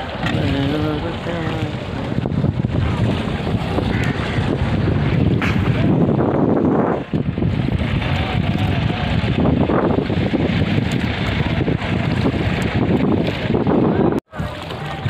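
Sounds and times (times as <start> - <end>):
oar splashing water: 0.0 - 15.0
wind buffeting microphone: 0.0 - 15.0.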